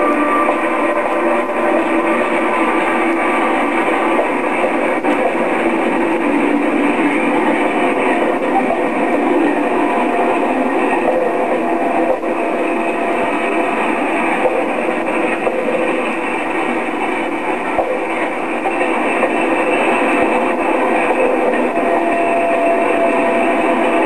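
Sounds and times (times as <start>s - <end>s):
electric locomotive running: 0.0s - 24.0s.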